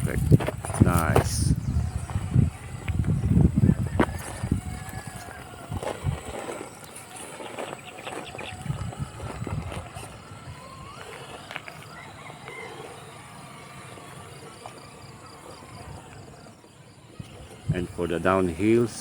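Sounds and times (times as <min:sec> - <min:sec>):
electric motor whining: 0:00.0 - 0:19.0
tires knocking against rock: 0:00.0 - 0:19.0.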